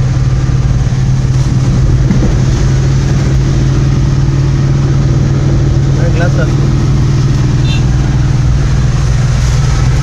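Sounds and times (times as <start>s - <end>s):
car engine drone: 0.0s - 10.0s
tyres on wet road: 0.0s - 10.0s.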